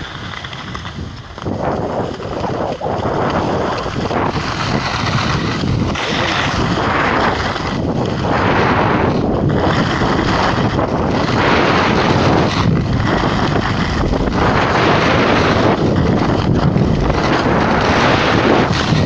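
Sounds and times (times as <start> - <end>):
skis sliding on packed snow: 0.0 - 19.0
wind rushing over microphone: 0.0 - 19.0.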